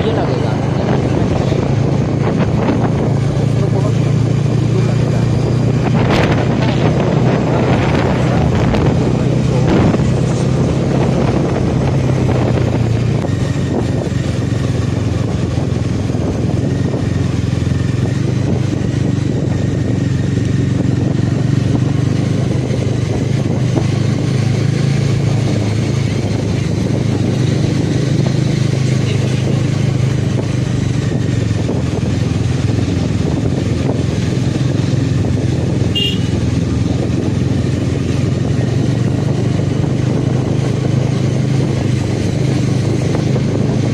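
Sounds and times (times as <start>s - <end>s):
motorcycle engine running: 0.0s - 43.9s
road and wind rush: 0.0s - 43.9s.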